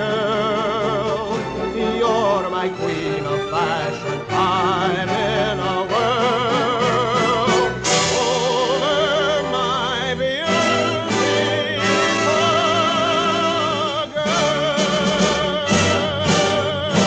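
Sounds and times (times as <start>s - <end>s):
orchestra playing held notes: 0.0s - 17.0s.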